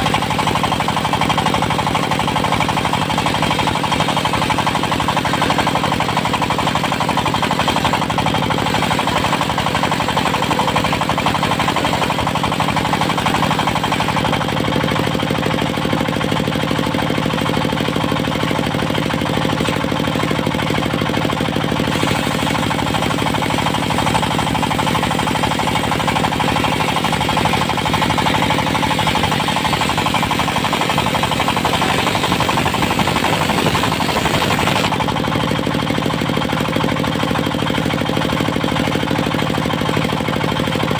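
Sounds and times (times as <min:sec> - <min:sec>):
sawmill engine chugging: 0:00.0 - 0:40.9.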